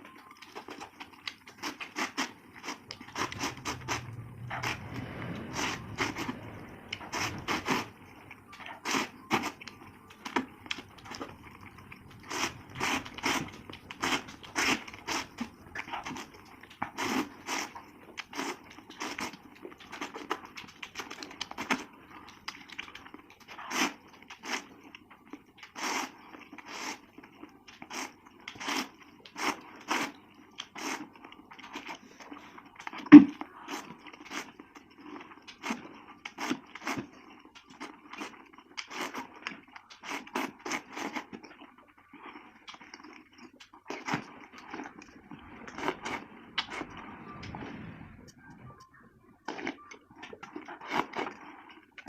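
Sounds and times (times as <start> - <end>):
faint low hum: 0.0 - 52.0
crunchy bites and chewing: 0.3 - 46.8.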